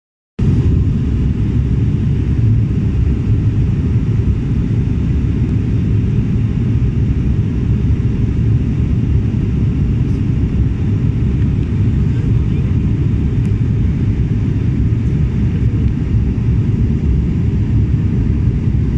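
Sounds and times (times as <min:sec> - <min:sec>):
airliner cabin engine rumble: 0:00.4 - 0:18.9.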